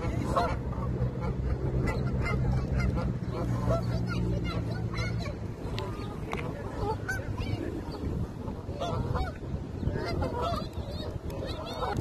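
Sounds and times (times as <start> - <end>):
geese honking: 0.0 - 12.0
low background rumble: 0.0 - 12.0.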